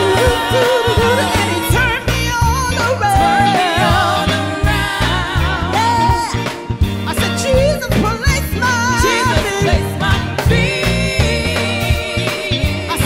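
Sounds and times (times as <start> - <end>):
bass-heavy instrumental beat: 0.0 - 13.0
women singing gospel: 0.0 - 13.0.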